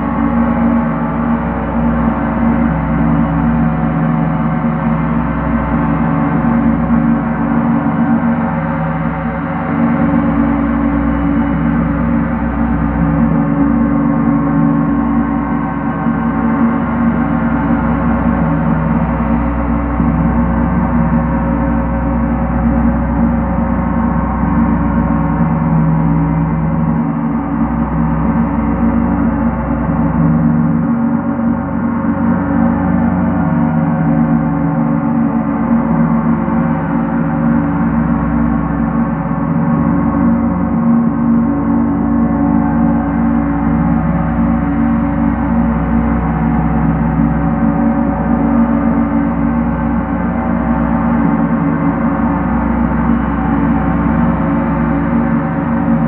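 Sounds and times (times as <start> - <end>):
gong soft roll: 4.6 - 56.0.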